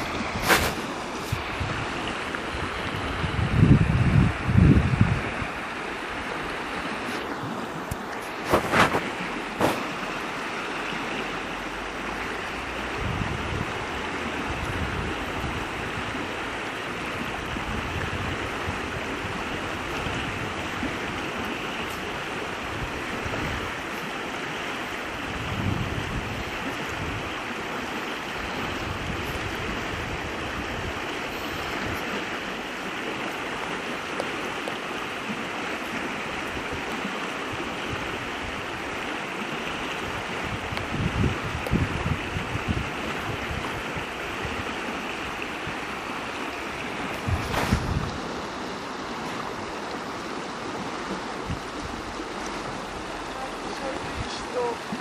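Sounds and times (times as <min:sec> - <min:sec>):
wind gusts on microphone: 0:00.0 - 0:34.7, 0:35.3 - 0:55.0
stream rushing over rocks: 0:00.0 - 0:55.0.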